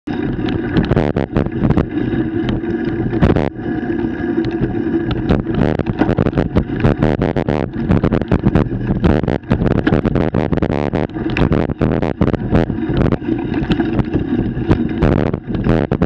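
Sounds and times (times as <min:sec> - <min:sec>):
bicycle rattling over dirt trail: 0:00.1 - 0:16.0
steady buzzing tone: 0:00.1 - 0:16.0.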